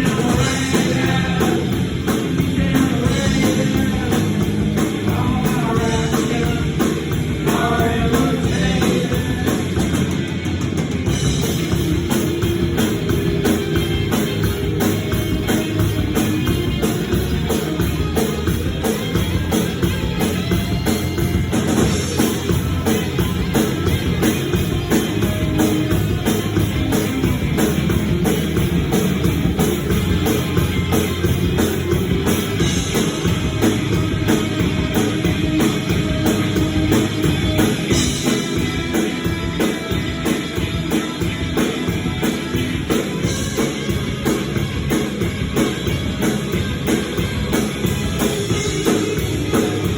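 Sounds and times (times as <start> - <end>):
driving drum kit: 0.0 - 49.9
guitar: 0.0 - 49.9
rock band playing: 0.0 - 49.9.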